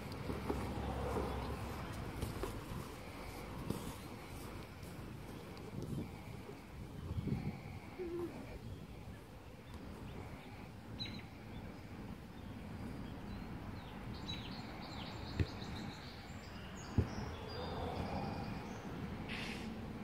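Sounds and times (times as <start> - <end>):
birds chirping: 0.0 - 19.7.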